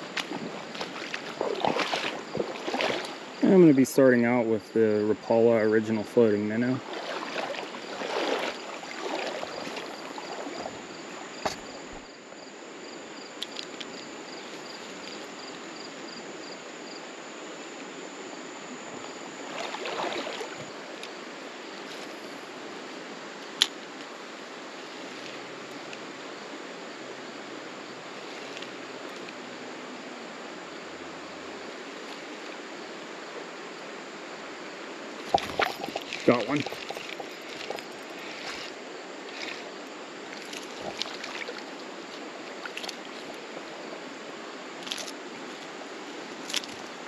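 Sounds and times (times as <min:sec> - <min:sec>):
river water flowing over rocks: 0:00.0 - 0:04.2, 0:05.1 - 0:47.0.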